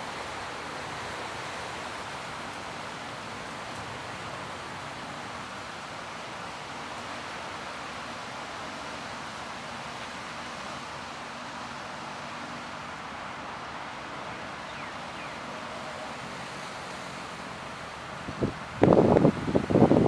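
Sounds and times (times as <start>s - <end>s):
river water: 0.0s - 20.0s
wind: 0.0s - 20.0s.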